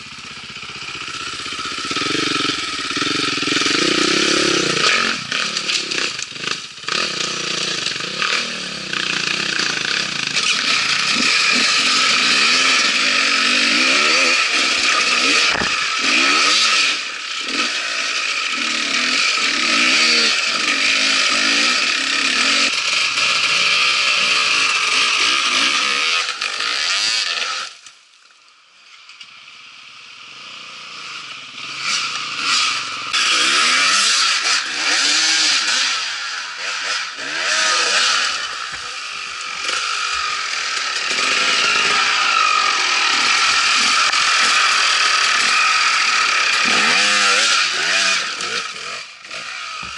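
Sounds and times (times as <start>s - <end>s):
dirt bike engine revving: 0.0s - 27.8s, 30.0s - 49.9s.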